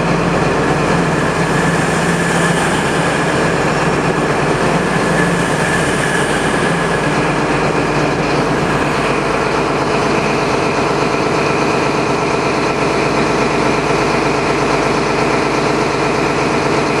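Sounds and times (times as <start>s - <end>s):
train diesel engines running: 0.0s - 17.0s.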